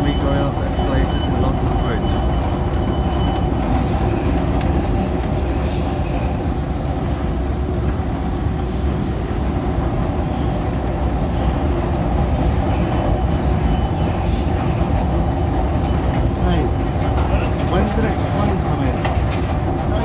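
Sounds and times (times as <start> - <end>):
escalator mechanical drone: 0.0 - 20.0.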